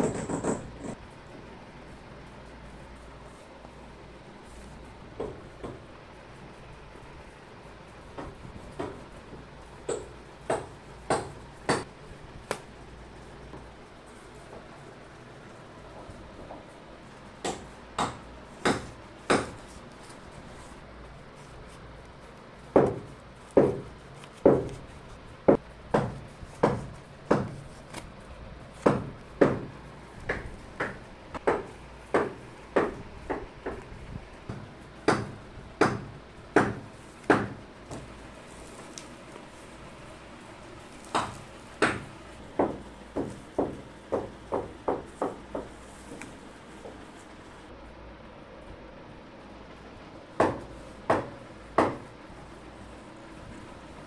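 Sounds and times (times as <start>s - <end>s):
room noise hiss and hum: 0.0s - 54.0s.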